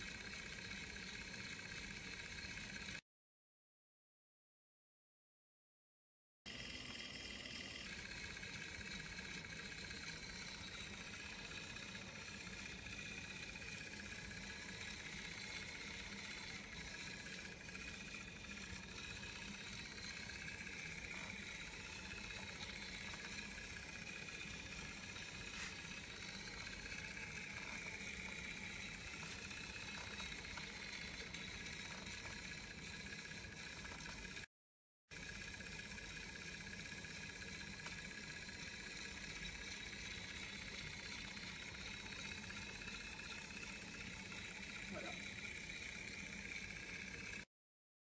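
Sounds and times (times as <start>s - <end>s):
electric motors whining and humming: 0.0s - 3.0s, 6.5s - 34.5s, 35.2s - 47.5s.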